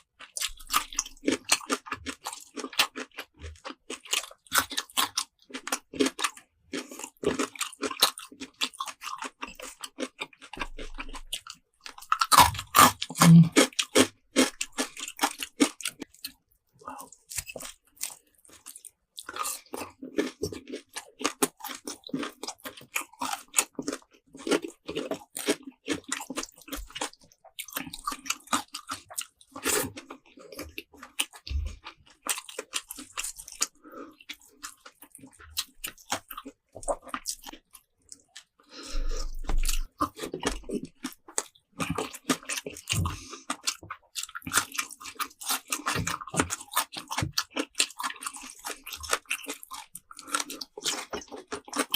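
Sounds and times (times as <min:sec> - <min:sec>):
chewing crisp food: 0:00.0 - 0:51.9.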